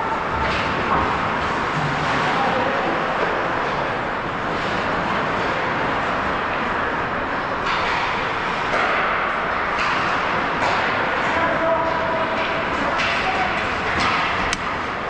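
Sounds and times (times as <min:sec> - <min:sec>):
indoor ice rink background noise: 0:00.0 - 0:15.0.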